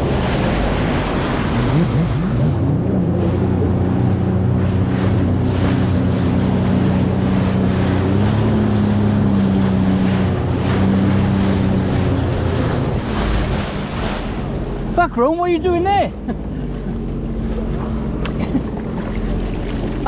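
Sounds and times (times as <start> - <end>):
jet ski engine running: 0.0 - 20.0
wind buffeting microphone: 0.0 - 20.0.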